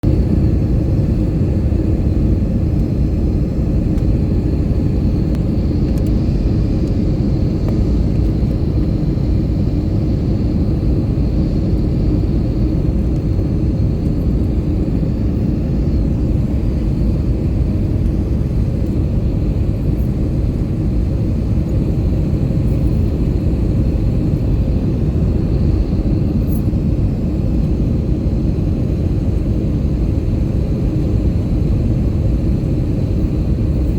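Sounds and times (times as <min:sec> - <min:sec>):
airliner cabin noise: 0:00.0 - 0:33.9.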